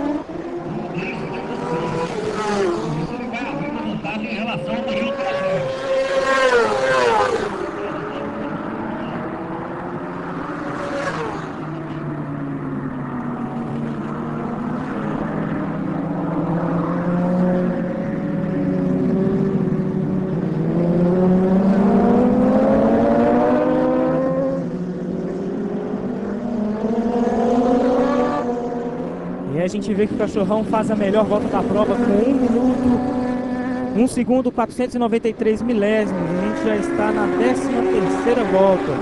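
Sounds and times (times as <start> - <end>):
racing motorbike engines revving: 0.0 - 39.0.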